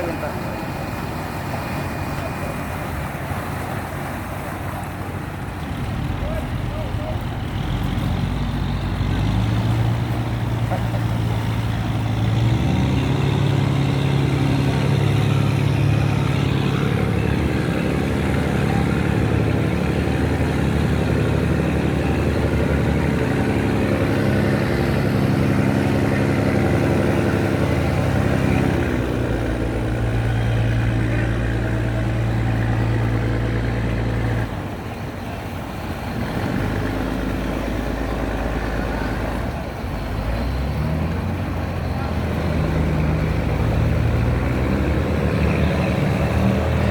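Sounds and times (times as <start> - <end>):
boat engine under heavy load: 0.0 - 46.9.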